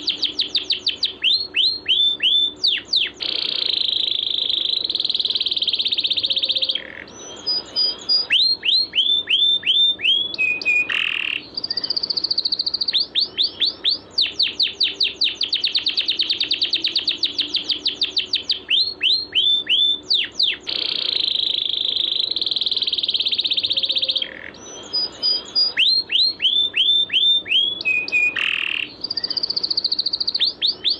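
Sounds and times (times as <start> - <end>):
songbird trills and whistles: 0.0 - 30.9.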